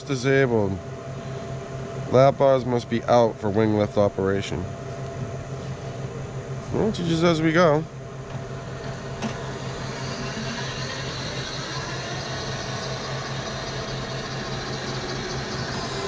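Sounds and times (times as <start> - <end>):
electric riding mower humming: 0.0 - 16.0.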